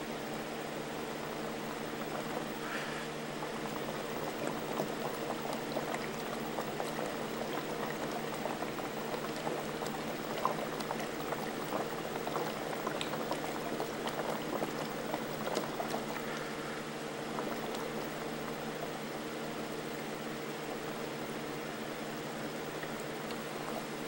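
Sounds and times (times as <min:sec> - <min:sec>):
steady low hum: 0:00.0 - 0:24.0
aquarium water bubbling: 0:00.2 - 0:24.0.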